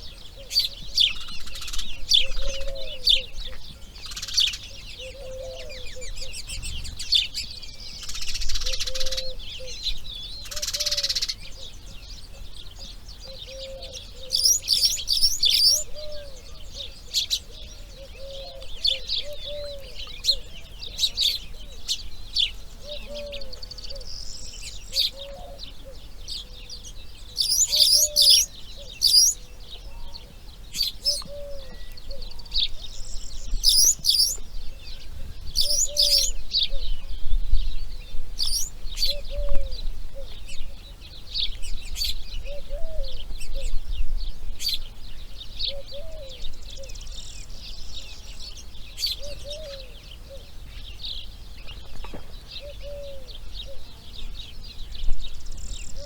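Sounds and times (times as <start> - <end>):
low cooing bird: 0.0 - 56.0
small birds chirping and trilling: 0.0 - 56.0.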